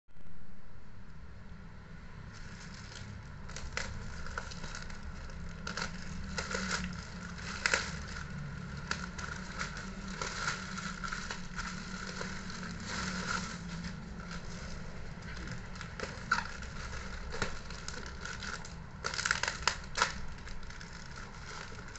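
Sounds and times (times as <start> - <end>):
plastic bag crinkling: 2.3 - 21.9.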